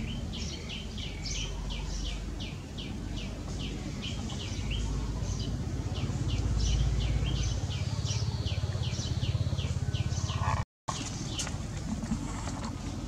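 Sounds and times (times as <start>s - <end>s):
bird chirping: 0.0s - 11.5s.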